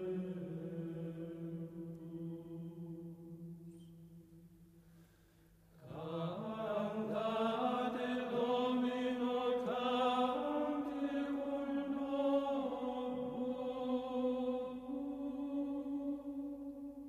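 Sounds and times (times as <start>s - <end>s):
chant-like vocal music: 0.0s - 4.6s, 5.7s - 17.0s.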